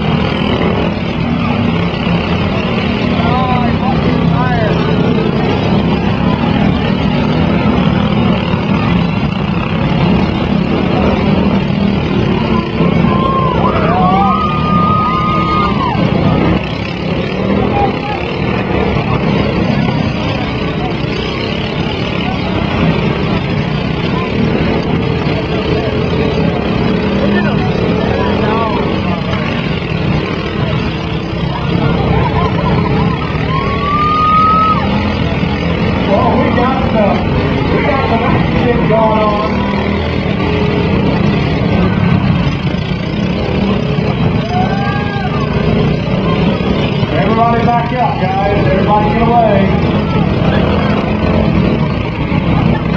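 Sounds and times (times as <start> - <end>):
held rising tone: 0.0 - 52.9
riding lawn mower engines: 0.0 - 52.9.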